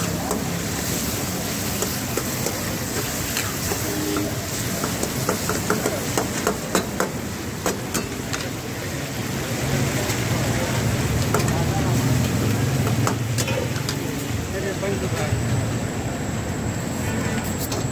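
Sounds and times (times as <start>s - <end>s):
steady background noise: 0.0s - 17.9s.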